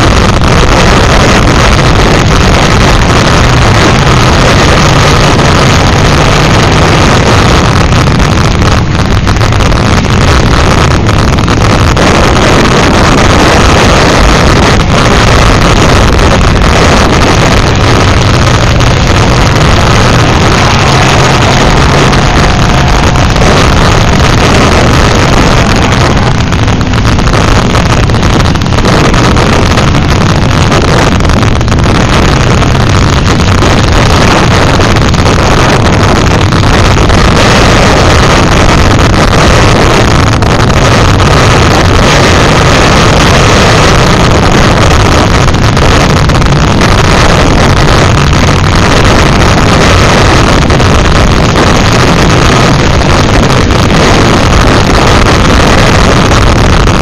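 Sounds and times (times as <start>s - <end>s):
car engines running: 0.0s - 56.4s
wind buffeting microphone: 0.0s - 57.0s.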